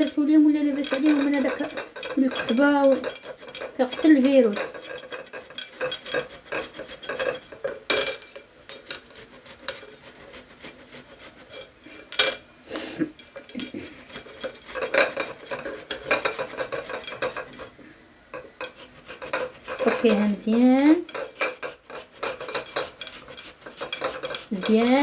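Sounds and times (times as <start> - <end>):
metal scraping ginger root: 0.0 - 12.1, 13.2 - 25.0.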